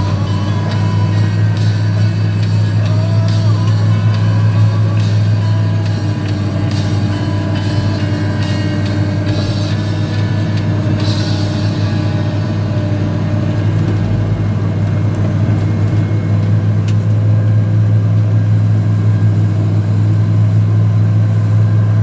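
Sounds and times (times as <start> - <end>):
excavator engine droning: 0.0 - 22.0.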